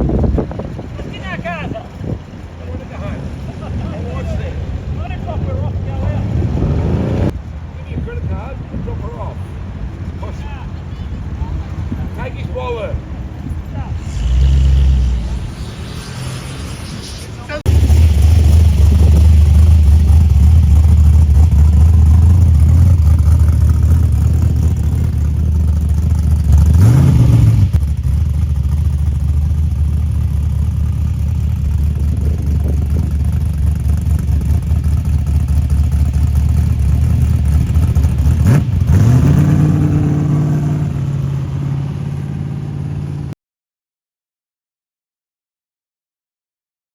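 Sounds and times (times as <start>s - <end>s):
car engine idling and revving: 0.0s - 43.4s.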